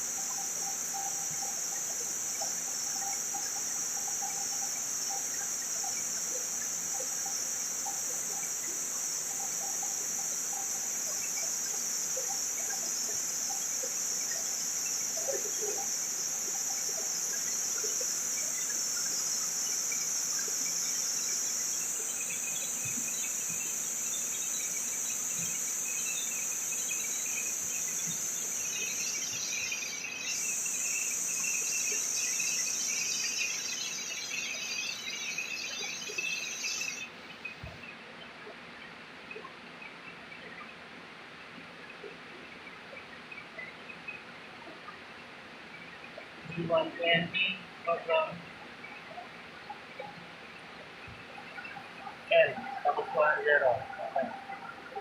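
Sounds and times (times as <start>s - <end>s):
faint chirps: 0.0s - 40.8s, 41.8s - 55.0s
insects buzzing: 0.0s - 40.9s, 41.8s - 55.0s.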